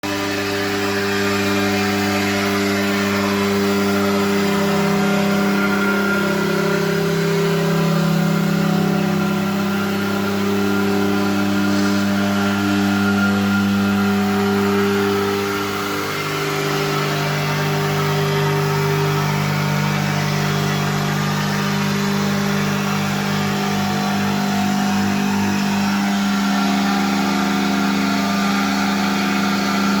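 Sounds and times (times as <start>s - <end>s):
milling machine humming: 0.0s - 30.0s
low pulsing throb: 0.1s - 30.0s.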